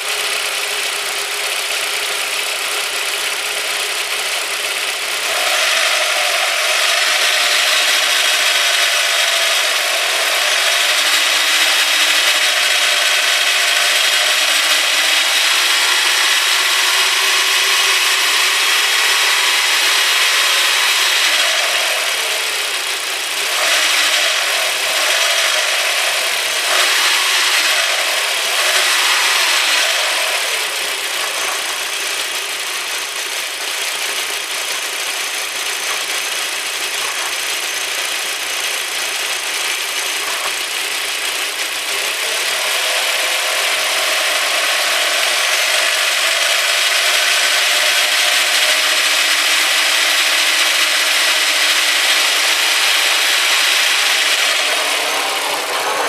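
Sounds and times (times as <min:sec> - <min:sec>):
car engine running near idle: 0:00.0 - 0:56.0.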